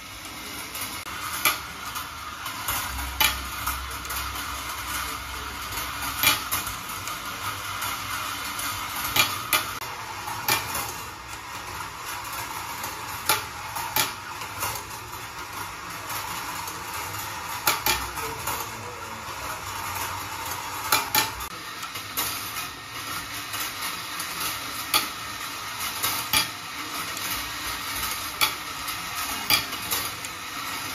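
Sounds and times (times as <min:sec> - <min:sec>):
marbles clinking on wire track: 0:00.0 - 0:30.9
marbles rolling on wire rails: 0:00.0 - 0:30.9.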